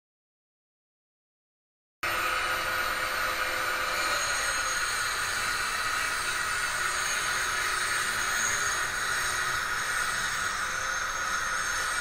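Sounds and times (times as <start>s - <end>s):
held whining tones: 2.0s - 12.0s
model trains hissing and whirring: 2.1s - 12.0s.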